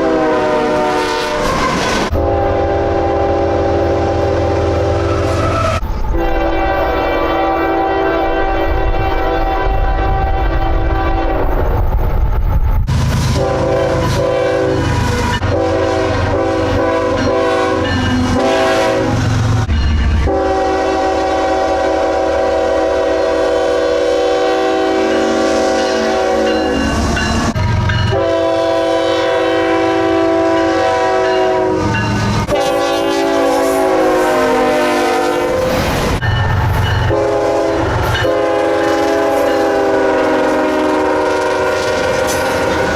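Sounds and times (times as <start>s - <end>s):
locomotive horn blasts: 0.0s - 11.8s, 13.3s - 35.9s, 36.8s - 42.9s
rumble of passing locomotives: 0.0s - 42.9s.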